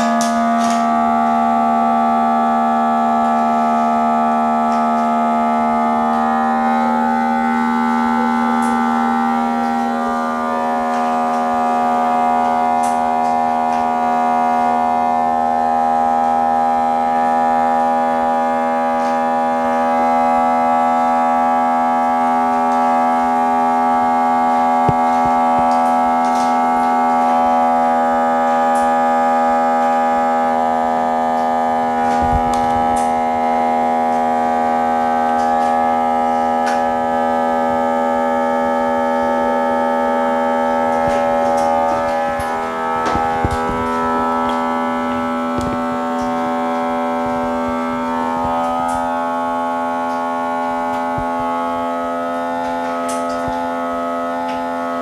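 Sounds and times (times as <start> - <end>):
steady drone of held tones: 0.0 - 55.0.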